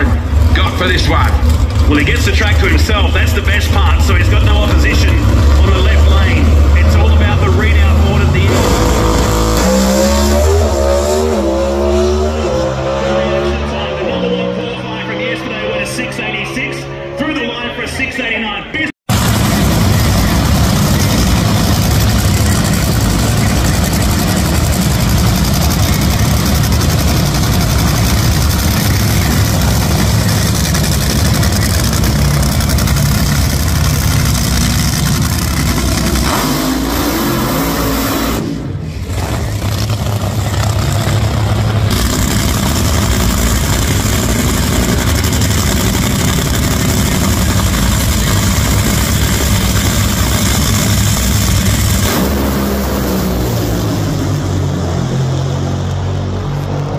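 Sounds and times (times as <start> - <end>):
dragster engines idling loudly: 0.0 - 9.6, 19.1 - 56.9.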